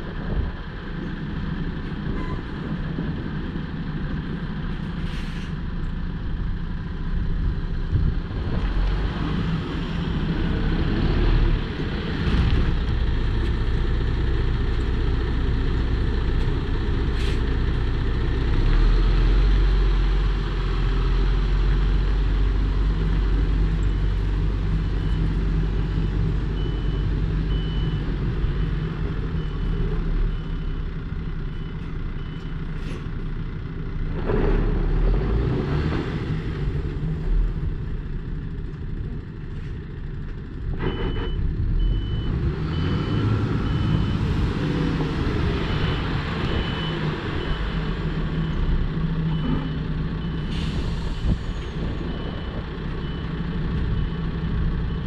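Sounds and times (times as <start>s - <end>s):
diesel truck driving slowly: 0.0s - 55.0s.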